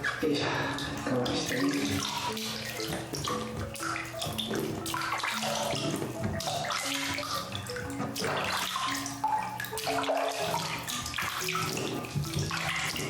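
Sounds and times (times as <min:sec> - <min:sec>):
simple background melody: 0:00.0 - 0:13.0
water running into a bath: 0:00.0 - 0:13.0.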